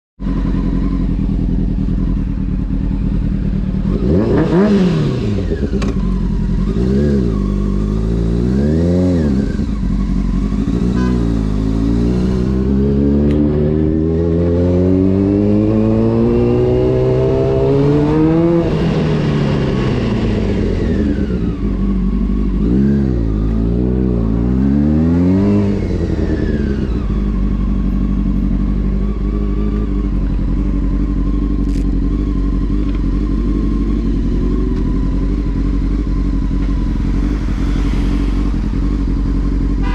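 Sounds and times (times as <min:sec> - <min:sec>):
motorcycle engine revving: 0:00.2 - 0:39.9.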